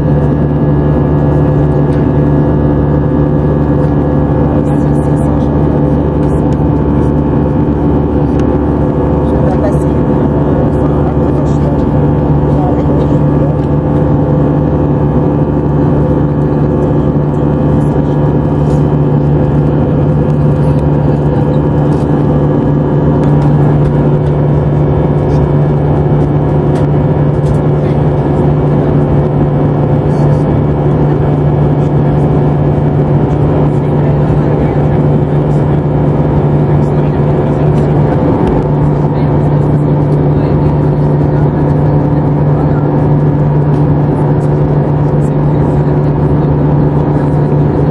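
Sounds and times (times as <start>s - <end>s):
constant low hum: 0.0s - 47.9s
jet engines droning: 0.0s - 47.9s.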